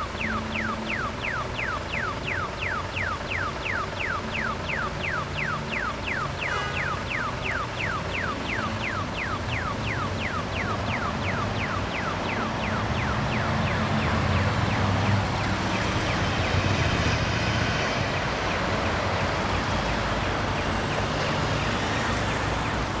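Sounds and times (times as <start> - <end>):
rumble of traffic: 0.0 - 23.0.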